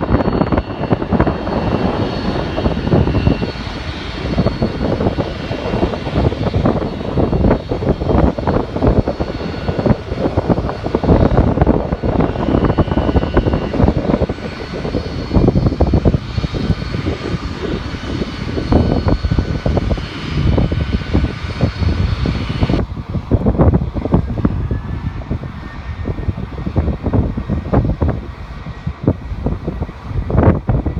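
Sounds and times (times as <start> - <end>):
jet engines whining: 0.0 - 30.9
wind buffeting microphone: 0.0 - 30.9.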